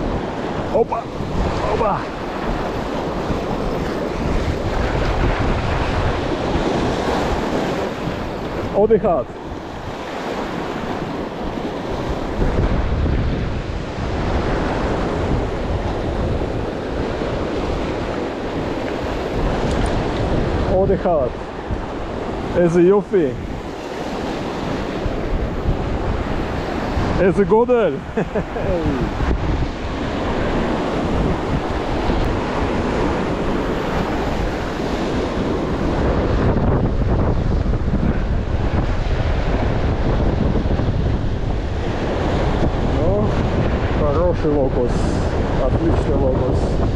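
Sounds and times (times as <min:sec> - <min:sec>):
surf breaking over rocks: 0:00.0 - 0:46.9
wind buffeting microphone: 0:00.0 - 0:46.9.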